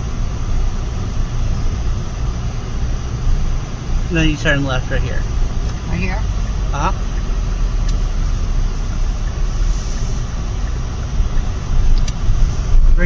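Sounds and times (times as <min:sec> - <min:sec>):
car cabin road noise: 0:00.0 - 0:13.0.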